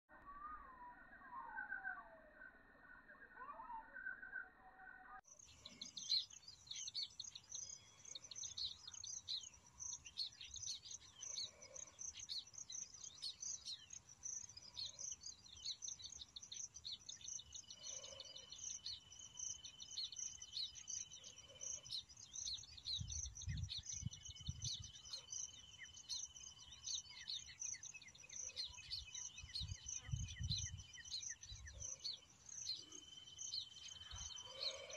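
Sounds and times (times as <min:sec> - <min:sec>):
flock of birds chattering: 0:05.4 - 0:34.9.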